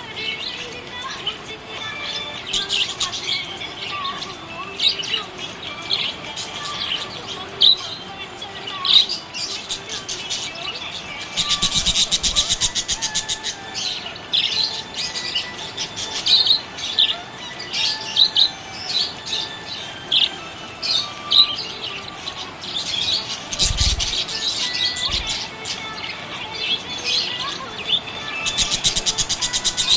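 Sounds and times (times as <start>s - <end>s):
budgerigar chirping and warbling: 2.2s - 29.9s.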